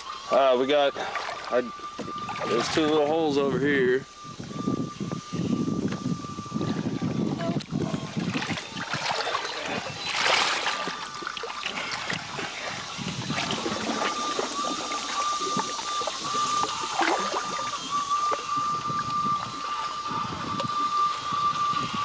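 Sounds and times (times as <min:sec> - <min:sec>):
thin high tone: 0:00.0 - 0:22.0.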